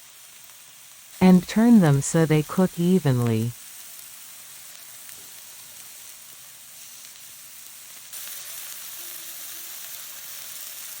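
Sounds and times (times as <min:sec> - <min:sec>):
skewers sizzling on grill: 0:00.0 - 0:11.0.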